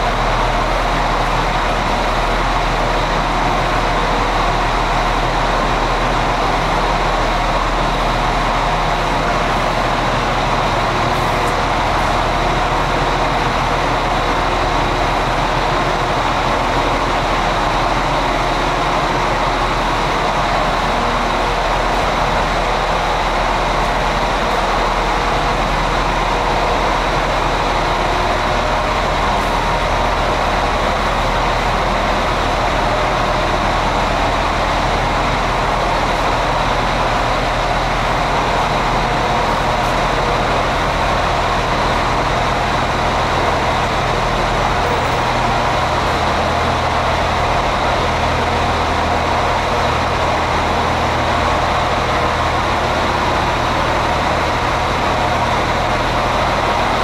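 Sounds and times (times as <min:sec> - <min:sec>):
diesel train idling: 0:00.0 - 0:57.0.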